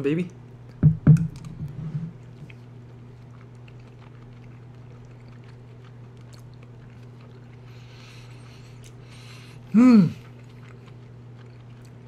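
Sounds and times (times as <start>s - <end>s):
steady low hum: 0.0s - 12.0s
person chewing food: 0.5s - 12.0s.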